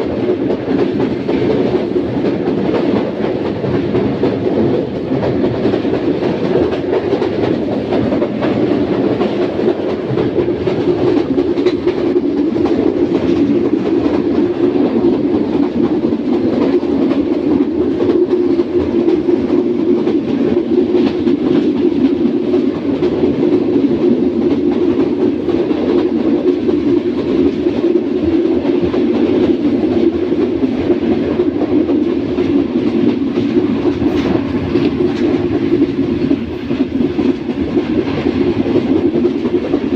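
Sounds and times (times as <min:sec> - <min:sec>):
train track rumble: 0:00.0 - 0:39.9
wheels clicking over rail joints: 0:00.0 - 0:39.9.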